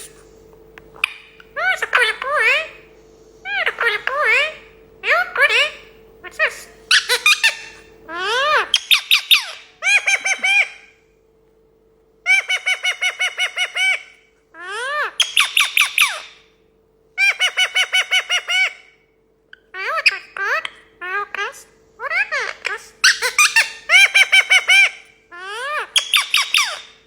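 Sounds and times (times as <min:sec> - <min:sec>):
parrot squawking: 0:01.0 - 0:02.8, 0:03.4 - 0:10.9, 0:12.3 - 0:16.4, 0:17.2 - 0:27.0.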